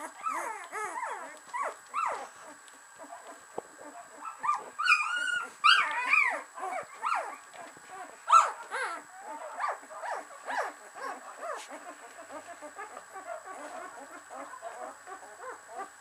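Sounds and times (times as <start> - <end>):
puppies whimpering and squeaking: 0.0 - 16.0.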